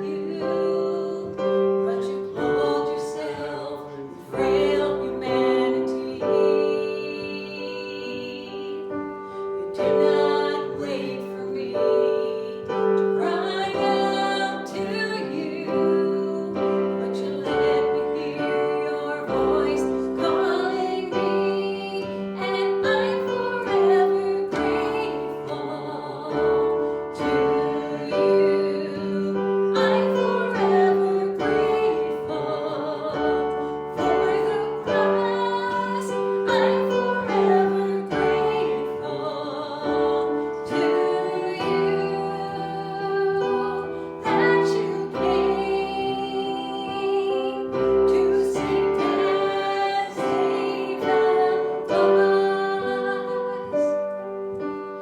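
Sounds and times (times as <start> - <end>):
woman singing slow song: 0.0 - 54.4
piano accompaniment: 0.0 - 55.0.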